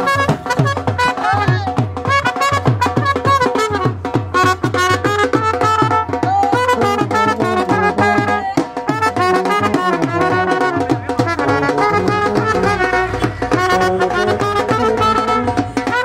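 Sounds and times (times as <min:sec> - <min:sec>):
brass horns playing melody: 0:00.0 - 0:16.0
dhol drum beating: 0:00.0 - 0:16.0.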